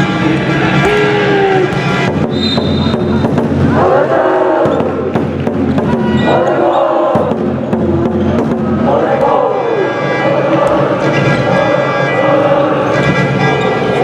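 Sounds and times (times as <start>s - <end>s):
crowd chanting: 0.0s - 14.0s.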